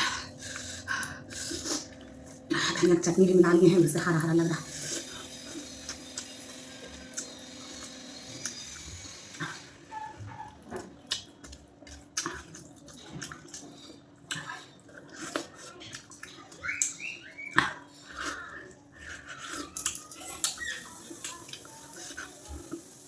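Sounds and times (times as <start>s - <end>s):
wet chewing and smacking: 0.4s - 2.5s, 4.7s - 22.9s.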